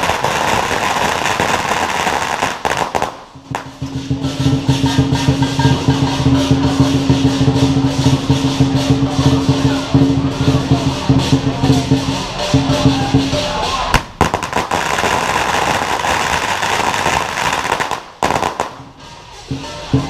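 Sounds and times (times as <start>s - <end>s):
cymbals crashing: 0.0s - 20.0s
drum beating: 0.0s - 20.0s
firecrackers crackling: 0.0s - 20.0s.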